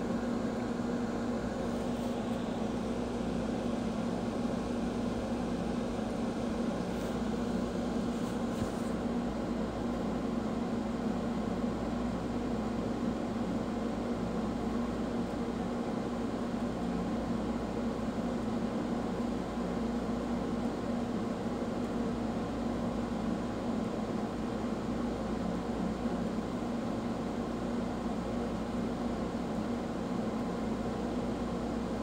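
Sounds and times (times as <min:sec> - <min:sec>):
mechanical hum with low drone: 0:00.0 - 0:32.0.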